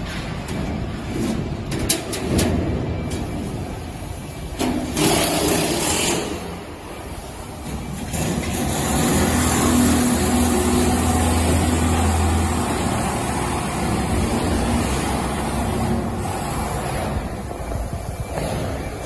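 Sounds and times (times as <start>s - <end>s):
heavy machinery running: 0.0s - 19.0s.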